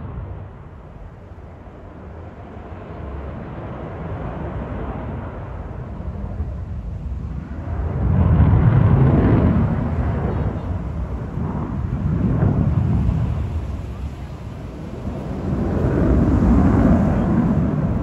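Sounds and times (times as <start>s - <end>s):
deep jet engine rumble: 0.0s - 18.0s.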